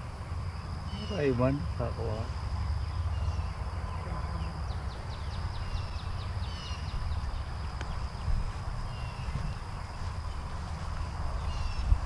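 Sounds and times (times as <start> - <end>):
birds chirping: 0.0 - 12.0
high insect drone: 0.0 - 12.0
low rumble on microphone: 0.0 - 12.0.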